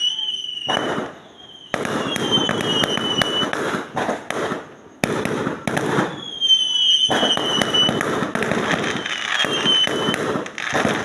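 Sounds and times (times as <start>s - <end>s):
firework whistle: 0.0s - 11.0s
fireworks bangs: 0.0s - 11.0s
fireworks crackling: 0.0s - 11.0s.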